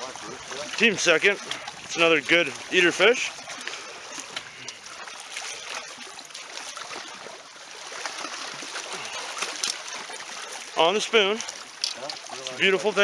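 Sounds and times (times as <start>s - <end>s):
water lapping against rocks: 0.0s - 13.0s
water trickling and gurgling: 0.0s - 13.0s.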